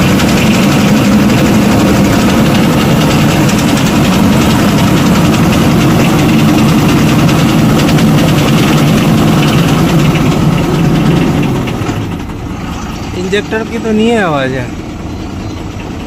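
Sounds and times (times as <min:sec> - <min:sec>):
diesel engine idling: 0:00.0 - 0:16.0
fast engine clatter: 0:00.0 - 0:16.0.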